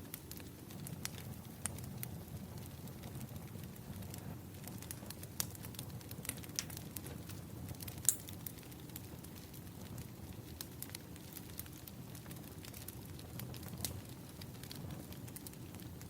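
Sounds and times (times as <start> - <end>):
low rumble of flame: 0.0 - 16.0
wood fire crackling: 0.0 - 16.0.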